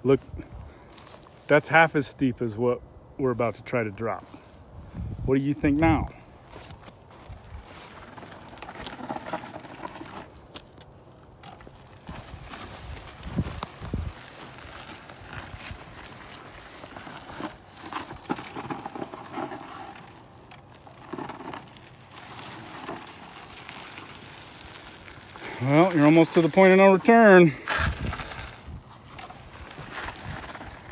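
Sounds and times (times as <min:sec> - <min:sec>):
gravel crunching under tyres: 0:00.0 - 0:02.6, 0:03.2 - 0:30.9.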